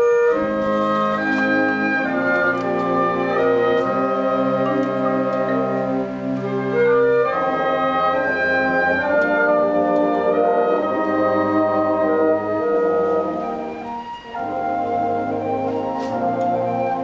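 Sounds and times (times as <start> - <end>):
wind band playing sustained chords: 0.0 - 17.0.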